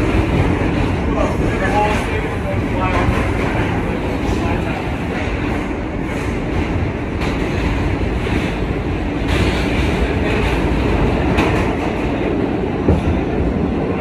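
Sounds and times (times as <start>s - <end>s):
subway wheels rumbling on rails: 0.0s - 14.0s.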